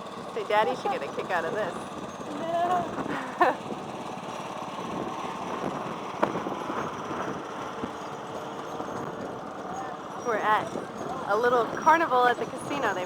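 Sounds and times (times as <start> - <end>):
mechanical running noise: 0.0 - 13.0.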